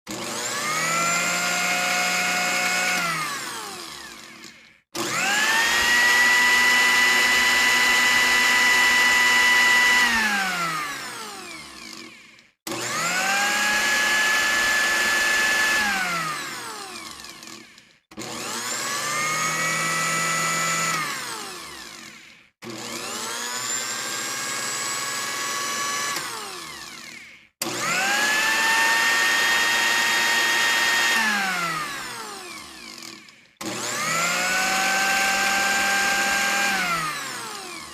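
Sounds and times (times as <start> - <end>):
blender motor whining: 0.0 - 37.9.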